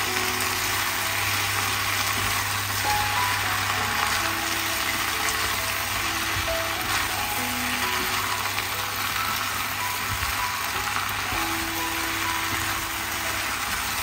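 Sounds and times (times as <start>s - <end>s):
food sizzling in a frying pan: 0.0s - 14.0s
soft background music: 0.0s - 14.0s.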